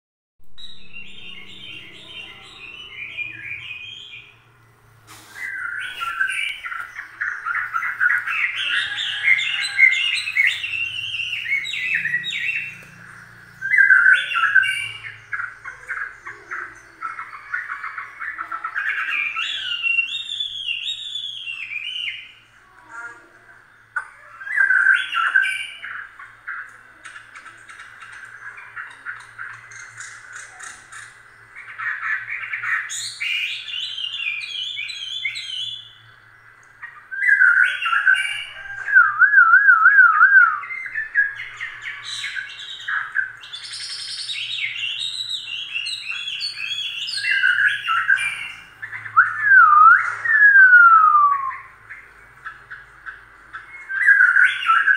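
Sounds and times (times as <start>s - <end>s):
high chirping and twittering: 0.4s - 54.9s.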